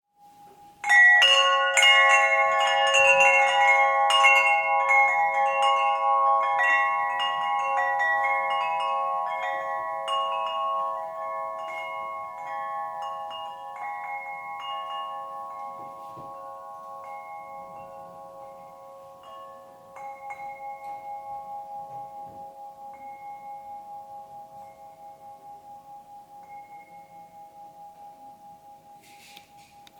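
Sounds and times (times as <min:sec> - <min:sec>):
wind chime being struck: 0:00.4 - 0:29.9.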